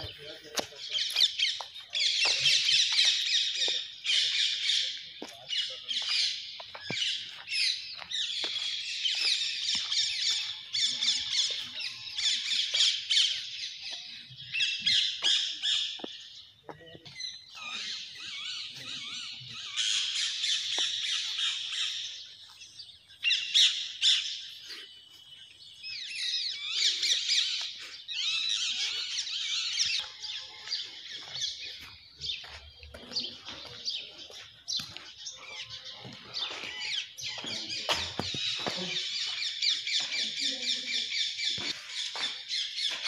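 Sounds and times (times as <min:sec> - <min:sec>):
birds chirping and squawking: 0:00.0 - 0:43.0.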